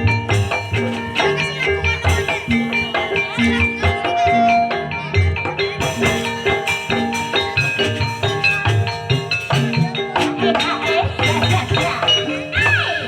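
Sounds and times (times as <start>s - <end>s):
mallet-struck keyed instruments melody: 0.0s - 13.0s.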